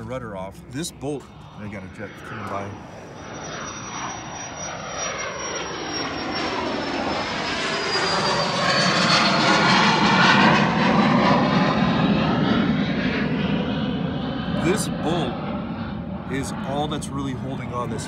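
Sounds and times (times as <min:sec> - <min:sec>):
jet aircraft passing: 0:00.0 - 0:18.0.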